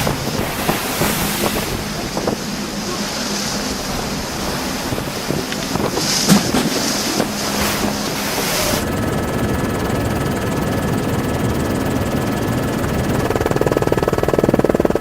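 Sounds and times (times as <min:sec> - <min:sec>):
heavy seas: 0:00.0 - 0:15.0
storm wind: 0:00.0 - 0:15.0
wind buffeting microphone: 0:00.0 - 0:15.0.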